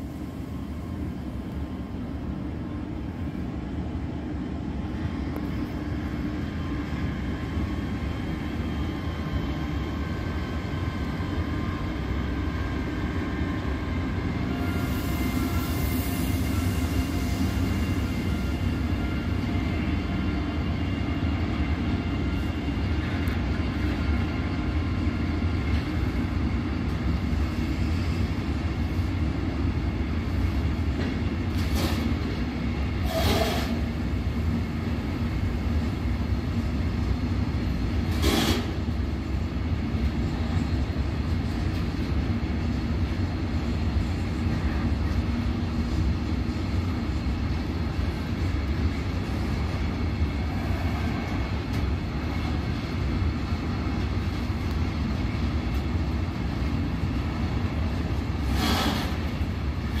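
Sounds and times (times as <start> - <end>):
train rumbling on track: 0.0 - 60.0.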